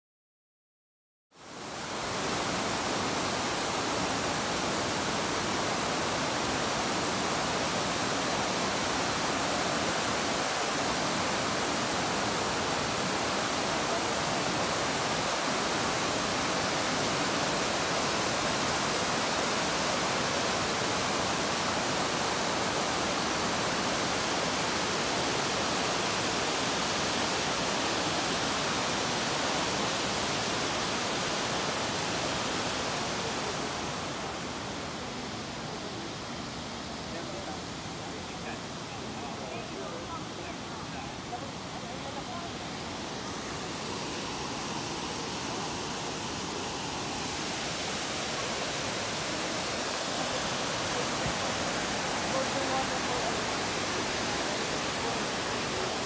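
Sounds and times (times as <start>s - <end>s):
waterfall rushing: 1.4s - 56.0s.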